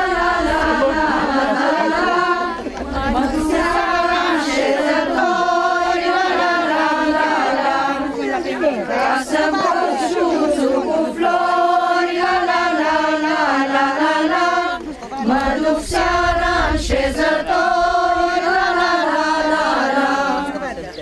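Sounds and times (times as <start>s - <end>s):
group singing folk song: 0.0s - 21.0s.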